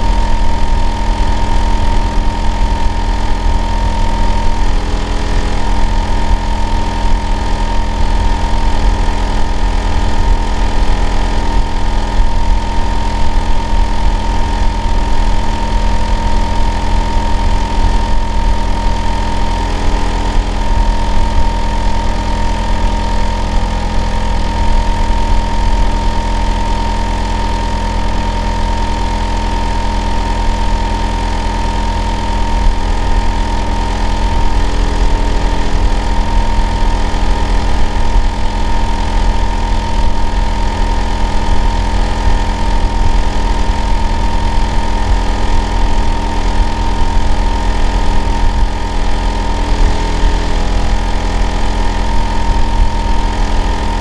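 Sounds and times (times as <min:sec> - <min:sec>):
air conditioner unit deep drone: 0:00.0 - 0:54.0
constant high whine: 0:00.0 - 0:54.0.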